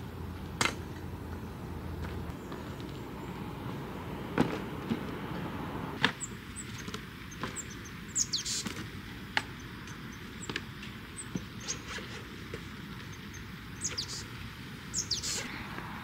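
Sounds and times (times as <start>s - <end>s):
small birds chirping: 0.8s - 4.1s, 6.0s - 16.0s.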